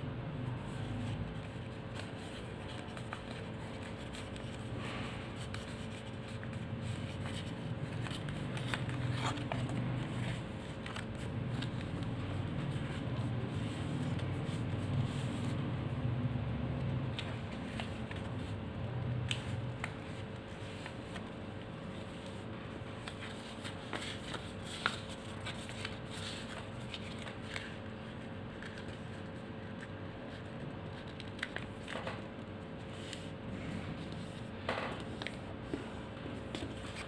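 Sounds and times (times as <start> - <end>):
faint steady hum: 0.0 - 37.0
paper folding and crinkling: 0.5 - 37.0.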